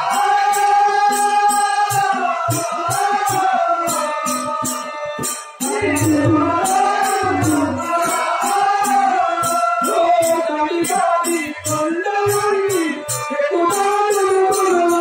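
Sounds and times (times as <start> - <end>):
hand cymbals jingling: 0.0 - 15.0
man singing: 0.0 - 15.0.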